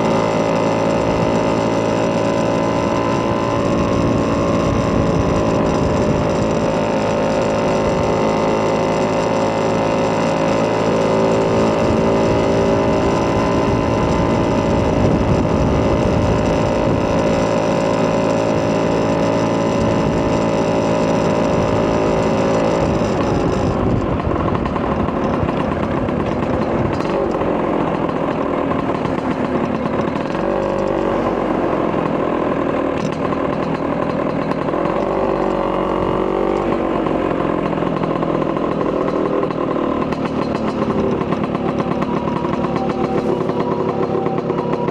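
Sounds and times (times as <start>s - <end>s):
two-stroke scooter engine running: 0.0s - 44.9s.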